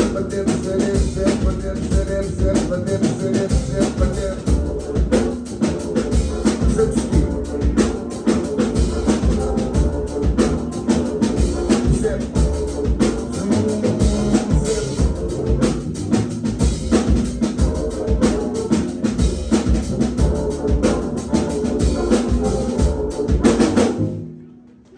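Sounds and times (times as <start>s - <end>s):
drum kit beat: 0.0s - 24.1s.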